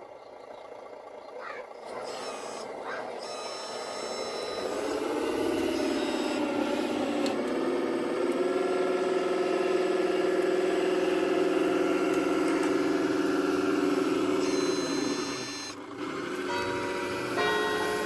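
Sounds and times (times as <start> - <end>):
model motor and gearbox whine: 1.7 - 18.0.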